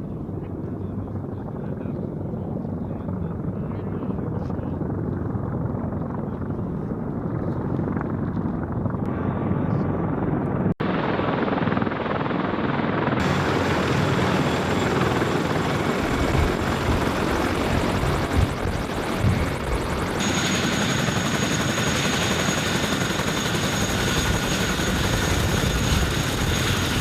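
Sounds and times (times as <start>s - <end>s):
helicopter rotor beat and turbine: 0.0s - 27.0s.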